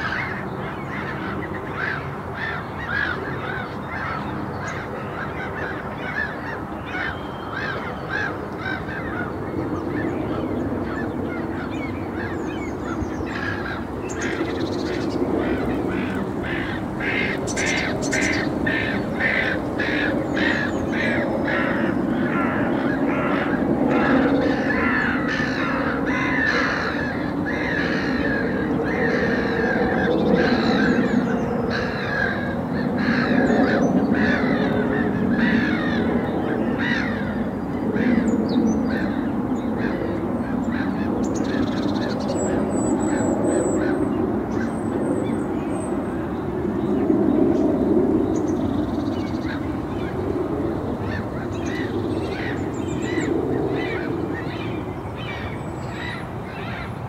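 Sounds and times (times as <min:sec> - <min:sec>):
birds harsh calls: 0:00.0 - 0:57.0.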